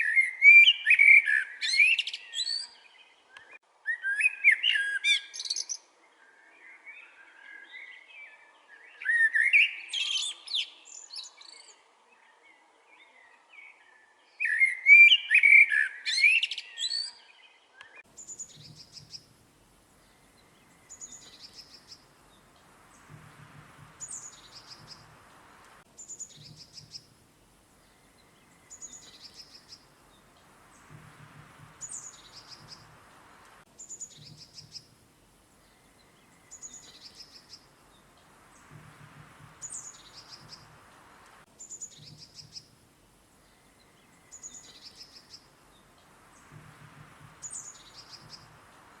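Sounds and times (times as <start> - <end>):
faint steady hiss: 0.0 - 49.0
songbirds chirping and trilling: 0.0 - 49.0.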